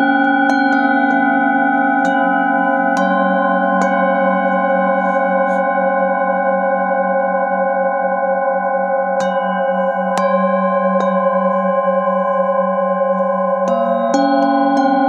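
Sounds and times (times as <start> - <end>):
singing bowl struck with mallet: 0.0 - 7.2, 9.0 - 15.0.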